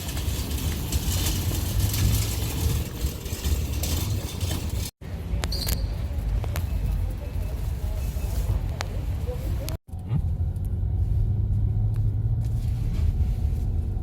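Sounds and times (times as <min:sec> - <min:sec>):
low vehicle rumble: 0:00.0 - 0:14.0.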